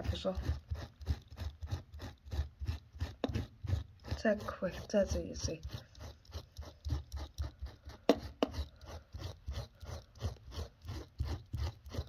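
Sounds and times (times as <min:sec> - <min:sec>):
blades scraping dried paint: 0:00.0 - 0:12.0.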